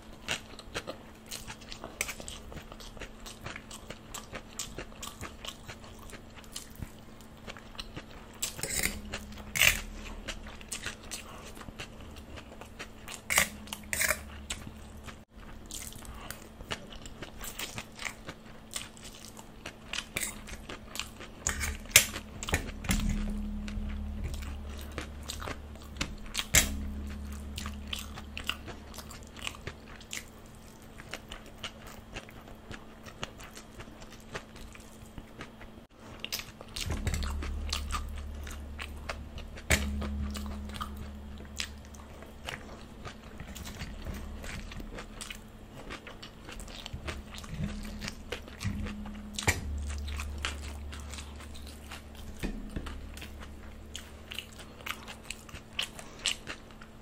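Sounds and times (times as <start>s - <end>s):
chewing noodles: 0.0s - 57.0s.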